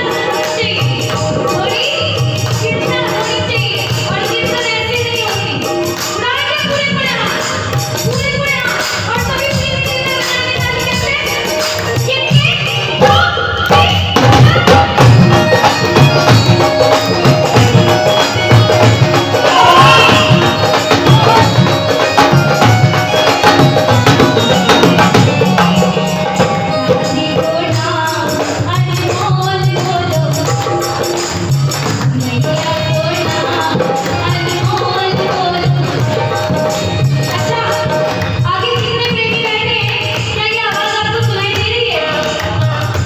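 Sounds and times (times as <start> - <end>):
devotional music: 0.0 - 43.0
jingling percussion: 0.0 - 43.0
steady percussion beat: 0.0 - 43.0.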